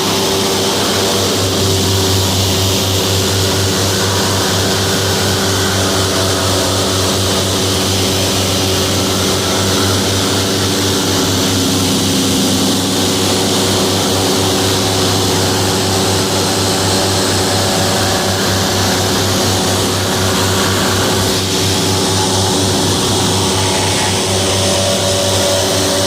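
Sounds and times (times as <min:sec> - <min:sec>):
airboat engine and propeller drone: 0:00.0 - 0:26.0.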